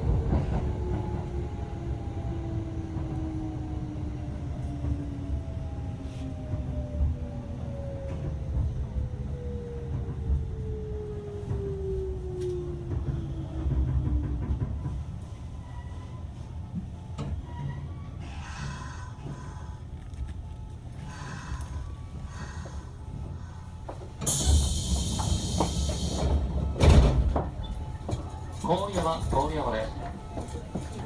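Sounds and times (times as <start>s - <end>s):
wheels rumbling on rail: 0.0s - 31.0s.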